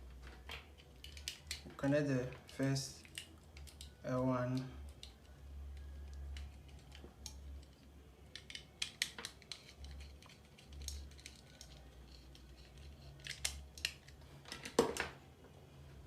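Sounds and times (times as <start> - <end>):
wire clicks and snips: 0.4 - 1.8, 2.4 - 15.0.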